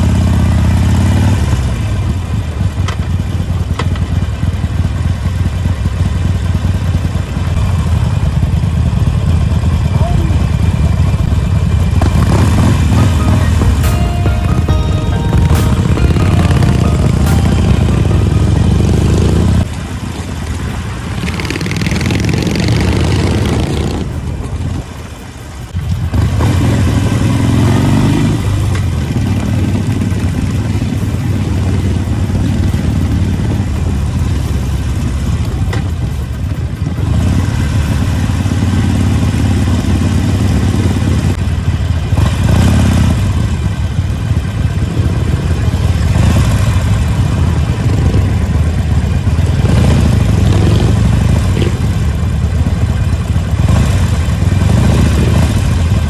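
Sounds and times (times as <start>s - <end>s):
motorcycle engines running: 0.0s - 56.0s.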